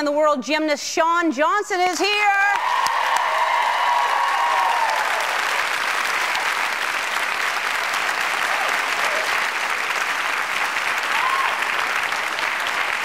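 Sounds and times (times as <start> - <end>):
audience applauding: 2.5 - 13.0
audience cheering: 2.5 - 13.0.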